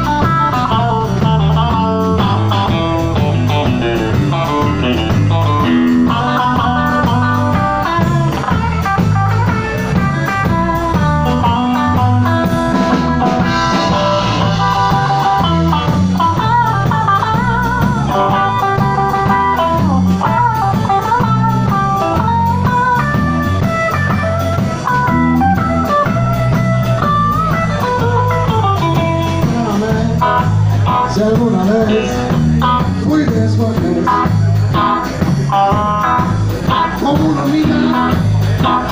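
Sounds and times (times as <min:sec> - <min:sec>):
bass and drums: 0:00.0 - 0:38.9
electric guitar lead with bent notes: 0:00.0 - 0:38.9.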